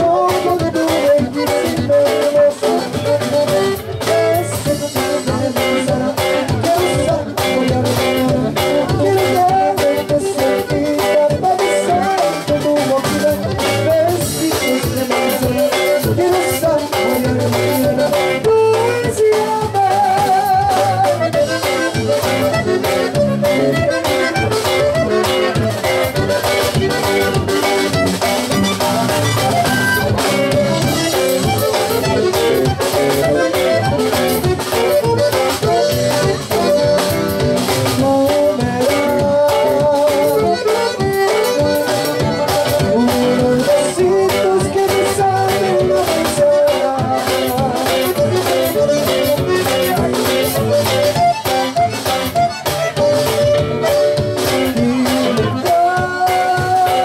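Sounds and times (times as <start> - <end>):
acoustic guitar: 0.0 - 57.0
button accordion melody: 0.0 - 57.0
drum kit steady beat: 0.0 - 57.0
electric bass: 0.0 - 57.0.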